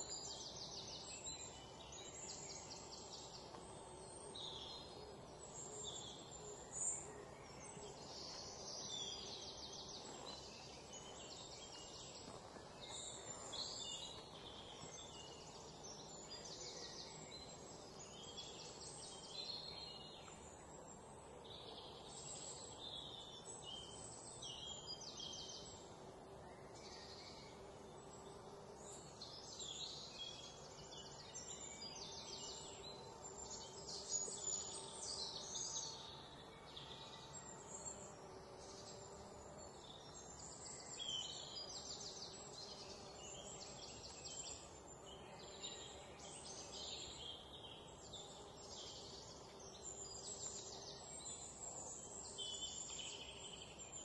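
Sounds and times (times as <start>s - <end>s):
faint bird chirping: 0.0s - 54.0s
low background hiss: 0.0s - 54.0s.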